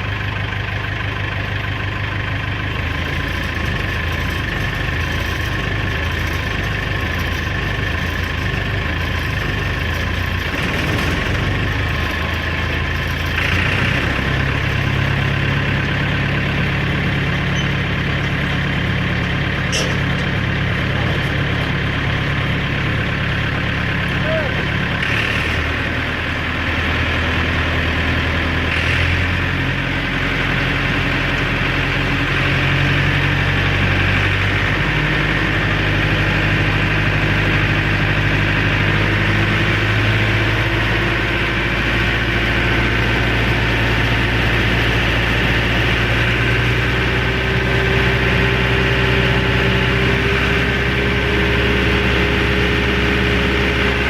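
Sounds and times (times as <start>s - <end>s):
heavy engine running: 0.0s - 54.0s.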